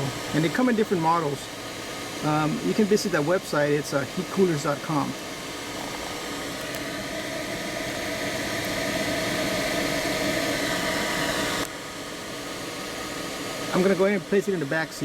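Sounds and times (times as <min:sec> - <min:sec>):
faint motor hum: 0:00.0 - 0:15.0
fan blowing air: 0:00.0 - 0:15.0.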